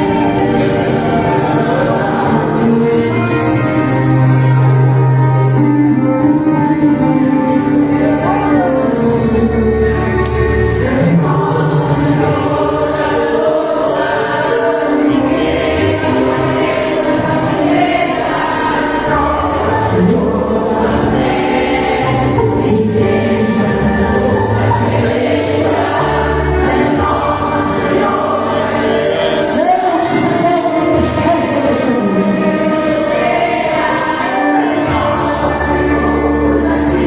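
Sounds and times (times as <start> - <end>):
group singing a hymn: 0.0 - 37.0
instrumental accompaniment: 0.0 - 37.0.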